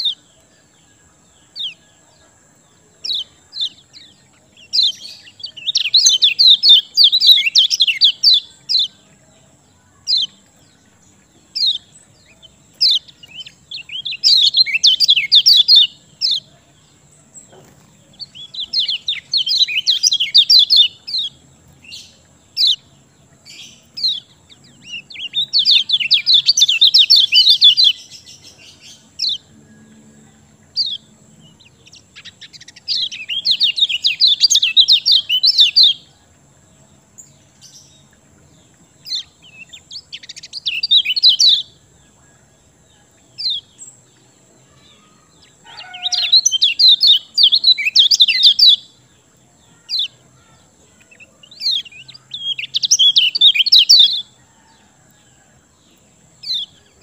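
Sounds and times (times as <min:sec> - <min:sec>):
rapid high chattering birdsong: 0:00.0 - 0:57.0
songbird chirps: 0:00.0 - 0:57.0.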